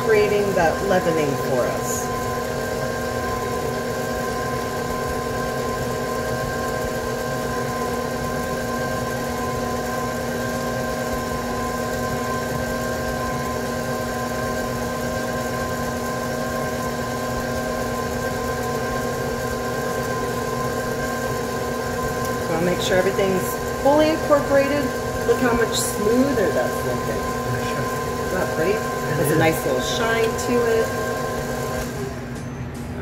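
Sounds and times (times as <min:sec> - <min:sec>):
stand mixer motor humming: 0:00.0 - 0:33.0.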